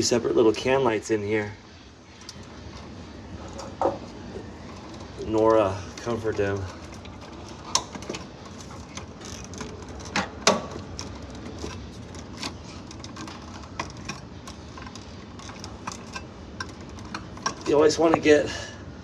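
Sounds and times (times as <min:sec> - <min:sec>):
wires and wire nuts clicking: 0:02.1 - 0:18.6.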